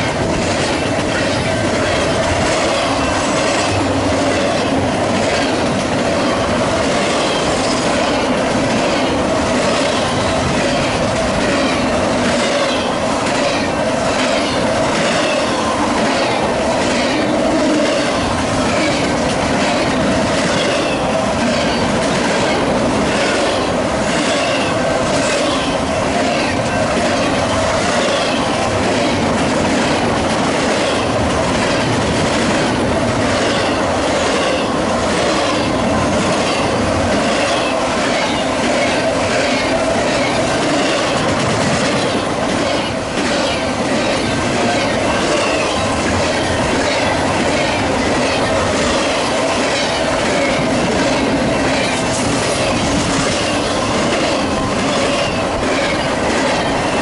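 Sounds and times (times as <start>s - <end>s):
freight train wheels rumbling: 0.0s - 57.0s
wheels clickety-clack on rail joints: 0.0s - 57.0s.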